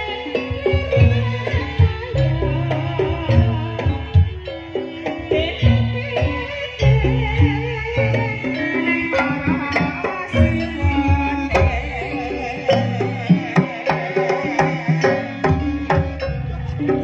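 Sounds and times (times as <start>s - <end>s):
metallophones playing: 0.0s - 17.0s.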